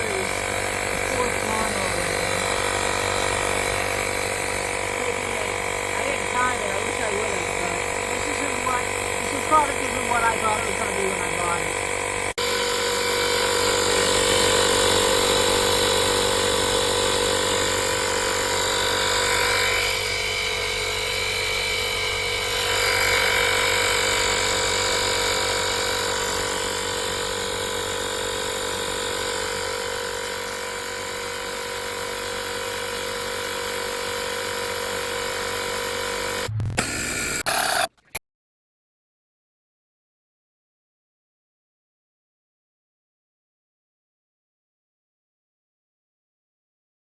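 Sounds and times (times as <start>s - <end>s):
tire inflator compressor buzzing: 0.0s - 38.2s.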